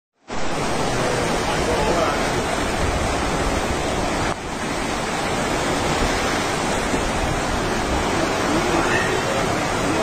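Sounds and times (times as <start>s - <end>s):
flooded river rushing: 0.2s - 10.0s.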